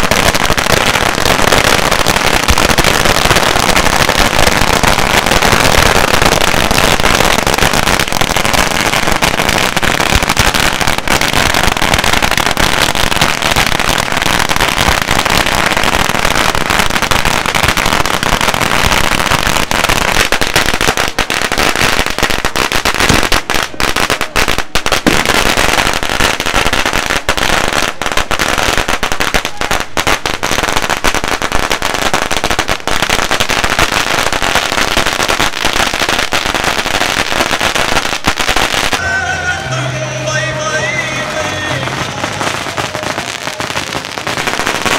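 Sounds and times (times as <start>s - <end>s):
firecrackers banging: 0.0s - 44.9s.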